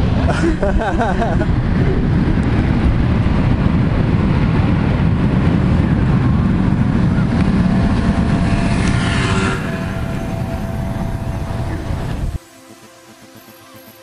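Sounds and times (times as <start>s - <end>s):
wind buffeting microphone: 0.0s - 12.4s
jet engines roaring: 0.0s - 13.3s.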